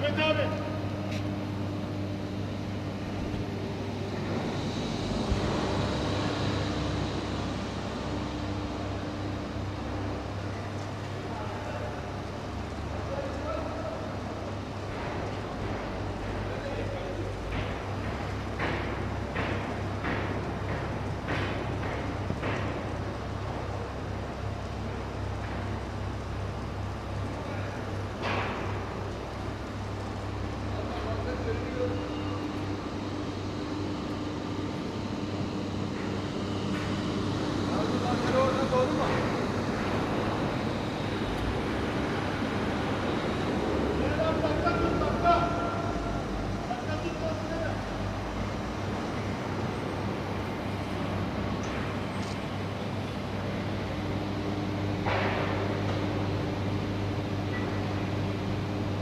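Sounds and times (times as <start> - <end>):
machinery hum: 0.0 - 59.0.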